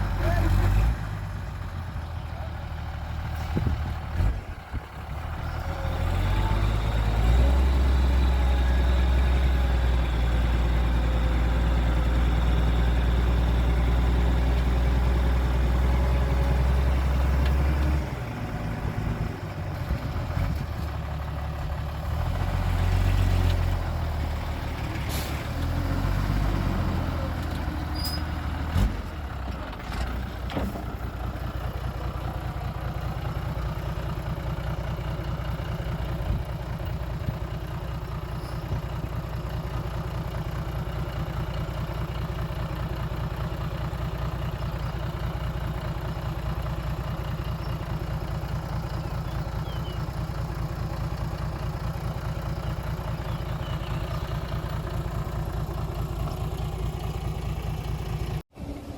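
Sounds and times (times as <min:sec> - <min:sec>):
heavy diesel engines running: 0:00.0 - 0:58.9.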